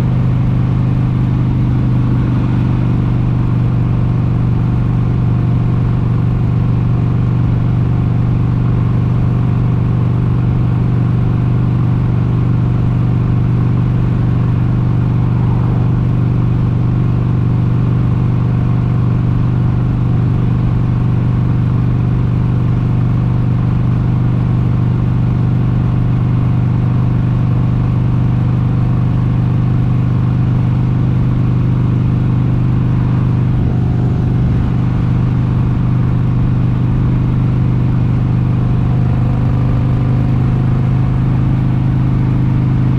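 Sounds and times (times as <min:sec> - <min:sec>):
motorcycle engine running steadily: 0:00.0 - 0:42.9.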